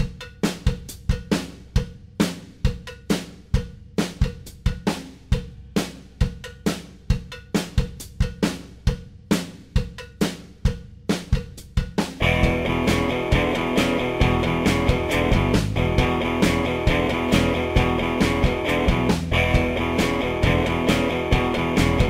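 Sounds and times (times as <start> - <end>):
drum kit beat: 0.0 - 22.0.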